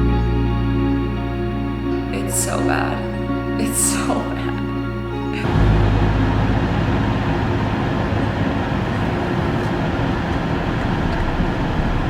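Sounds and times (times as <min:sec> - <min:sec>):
vehicle rumbling in motion: 0:00.0 - 0:12.0.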